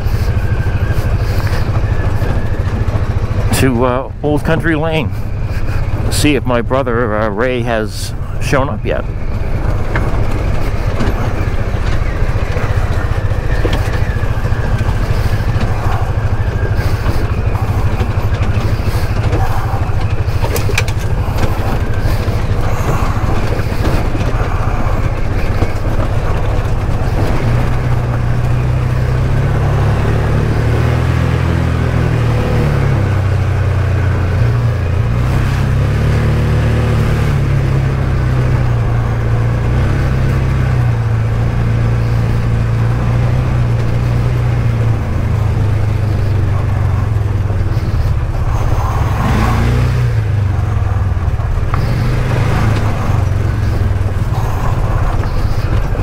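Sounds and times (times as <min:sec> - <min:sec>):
atv engine running: 0:00.0 - 0:56.0
rattles and knocks: 0:08.9 - 0:56.0.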